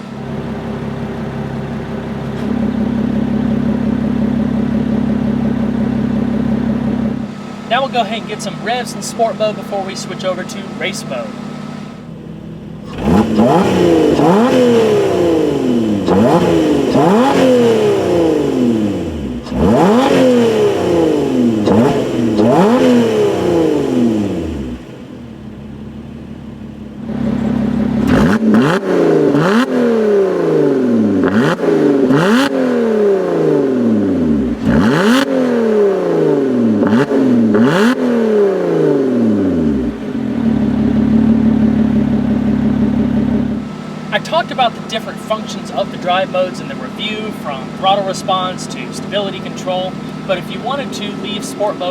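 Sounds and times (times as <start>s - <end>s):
engine idling: 0.0s - 35.2s, 35.8s - 51.9s
car engine revving: 0.0s - 51.9s
exhaust cracks: 0.0s - 51.9s.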